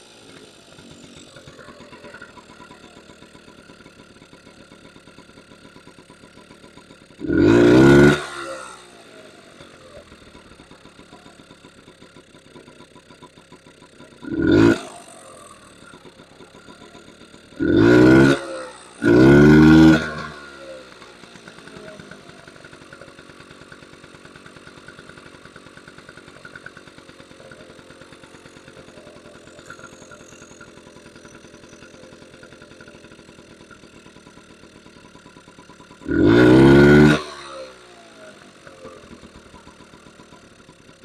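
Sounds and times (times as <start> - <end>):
two-stroke engine idling and revving: 0.0 - 41.0.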